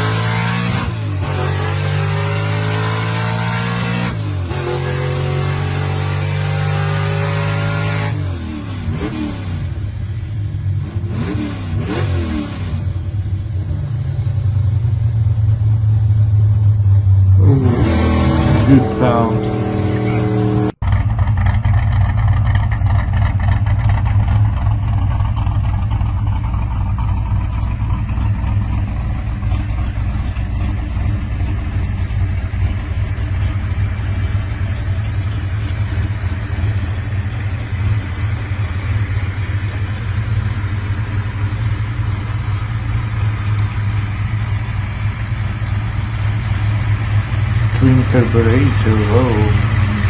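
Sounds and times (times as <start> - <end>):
car engine idling: 8.1 - 50.0.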